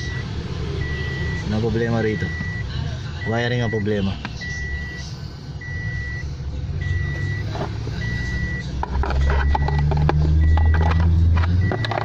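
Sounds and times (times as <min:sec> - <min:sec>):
electronic warning beeper: 0:00.0 - 0:11.0, 0:11.6 - 0:12.0
engine running hum: 0:00.0 - 0:12.0.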